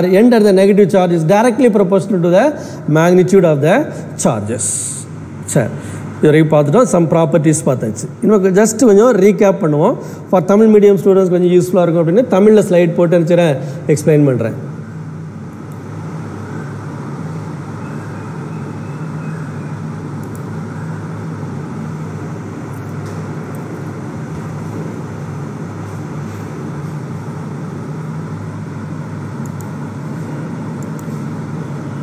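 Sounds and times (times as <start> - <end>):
constant low hum: 0.0 - 32.0.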